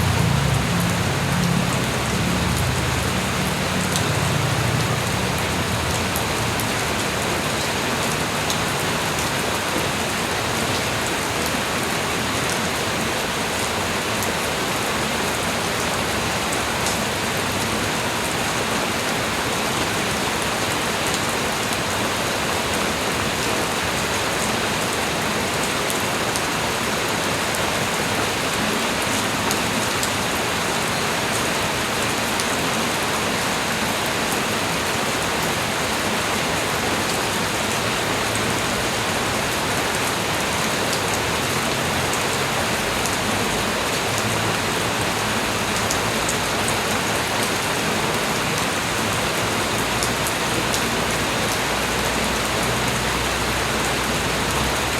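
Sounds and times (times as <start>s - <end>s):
light rain pattering: 0.0s - 54.9s.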